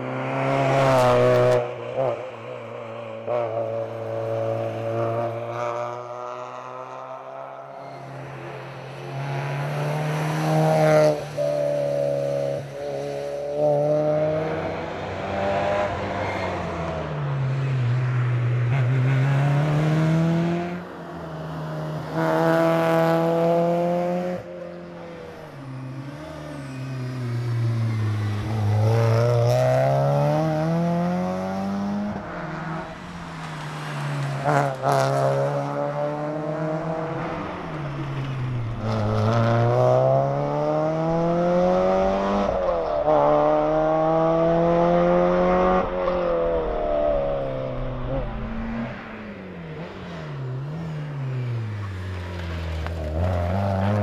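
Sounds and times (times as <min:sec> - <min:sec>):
car engine revving: 0:07.9 - 0:54.0.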